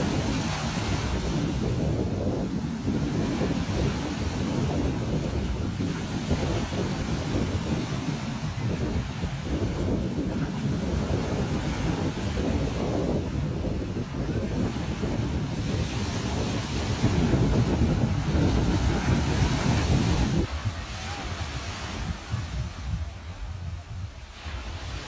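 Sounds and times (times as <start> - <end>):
ocean waves washing onto beach: 0.0 - 25.0
wind buffeting microphone: 0.0 - 25.0.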